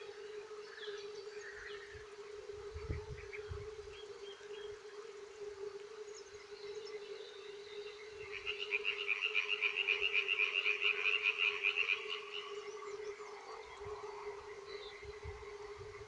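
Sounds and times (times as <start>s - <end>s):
frog chorus: 0.0s - 16.0s.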